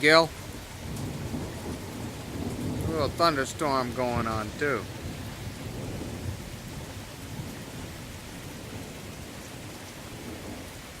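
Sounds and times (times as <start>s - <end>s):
heavy rain pouring: 0.0s - 11.0s
thunder rumbling: 0.0s - 11.0s.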